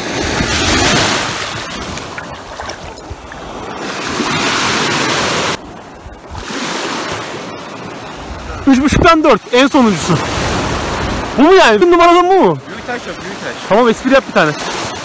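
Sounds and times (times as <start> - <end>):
small waves on pebbly shore: 0.0 - 15.0.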